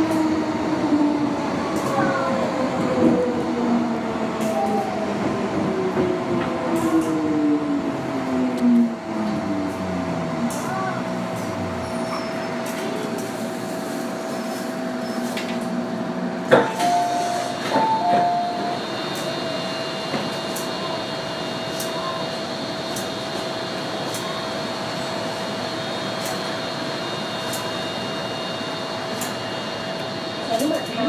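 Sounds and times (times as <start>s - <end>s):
train equipment hum: 0.0s - 31.0s.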